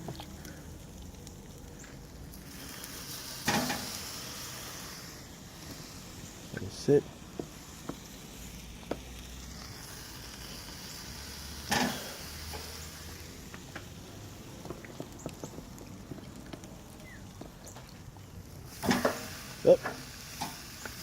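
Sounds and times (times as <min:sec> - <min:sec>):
chicken sizzling on a grill: 0:00.0 - 0:21.0
wood fire crackling and popping: 0:00.0 - 0:21.0.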